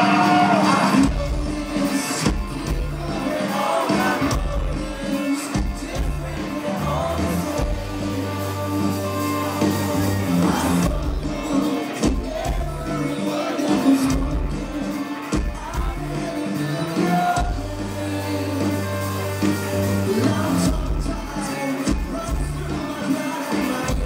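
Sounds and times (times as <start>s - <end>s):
man singing: 0.0s - 24.0s
rock band playing: 0.0s - 24.0s.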